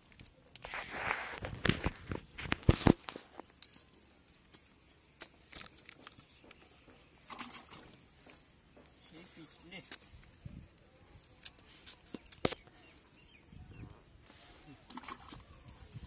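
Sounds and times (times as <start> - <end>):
cast net rustling and crackling: 0.0 - 16.0.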